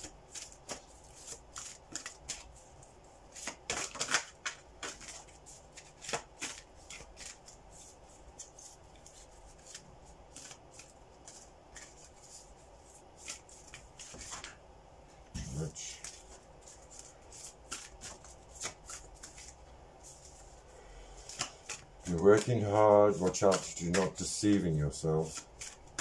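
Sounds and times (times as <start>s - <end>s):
playing cards shuffling: 0.0s - 14.6s, 15.4s - 20.6s, 21.2s - 26.0s.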